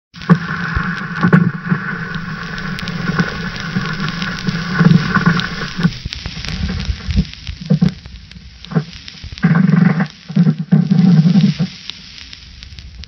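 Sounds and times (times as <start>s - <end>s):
film crackles and pops: 0.1s - 13.0s
film soundtrack hum and hiss: 0.2s - 13.0s.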